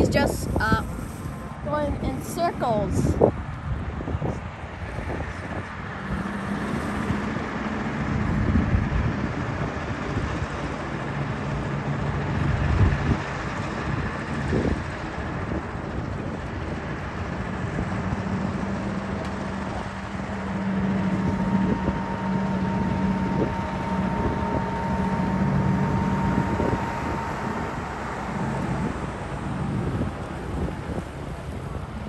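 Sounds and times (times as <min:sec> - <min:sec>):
radial aircraft engine droning: 0:00.0 - 0:32.0.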